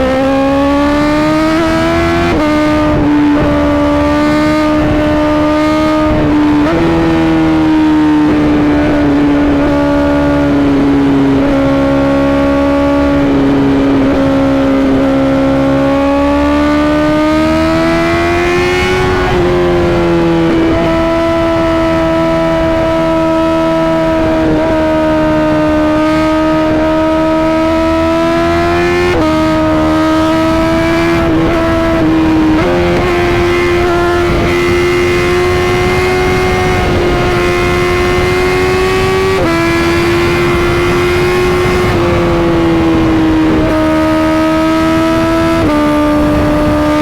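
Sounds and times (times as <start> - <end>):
motorcycle engine at high revs: 0.0 - 47.0.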